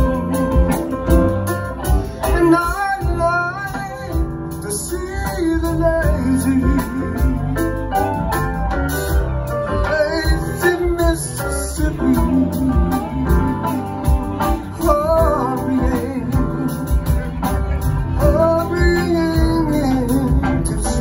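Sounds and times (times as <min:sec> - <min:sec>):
live band playing: 0:00.0 - 0:21.0
man singing: 0:02.0 - 0:08.3, 0:08.9 - 0:21.0.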